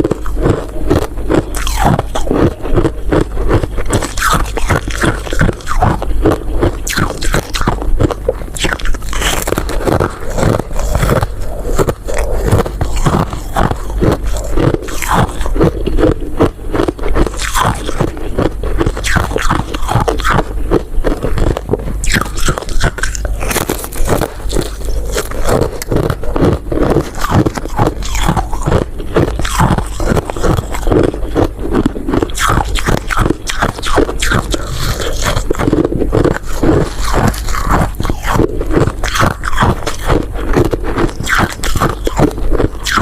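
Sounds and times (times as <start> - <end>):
crunchy bites and chewing: 0.0 - 43.0.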